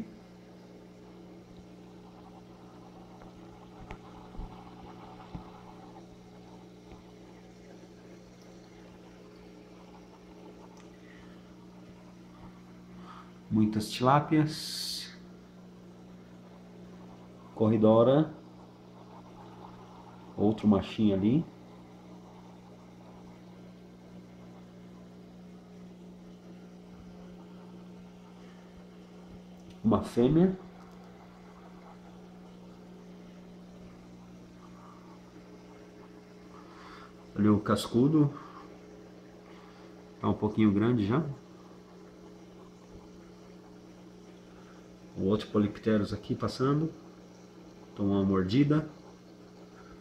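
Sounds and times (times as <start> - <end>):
aquarium pump hum: 0.0 - 50.0
faint hiss of water: 0.0 - 50.0.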